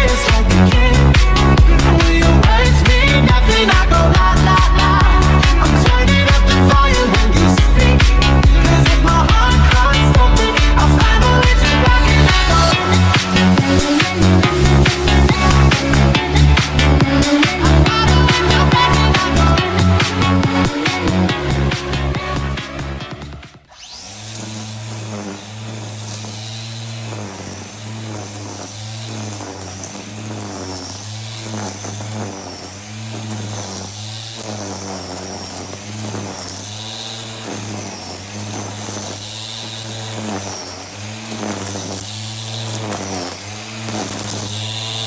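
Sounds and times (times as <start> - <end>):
string trimmer motor whine: 0.0 - 45.0.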